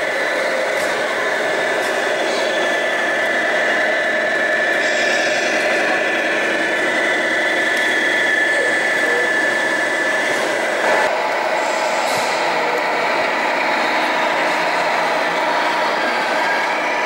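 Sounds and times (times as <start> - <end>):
model truck running noise: 0.0 - 17.0
model trucks high whine: 0.0 - 17.0.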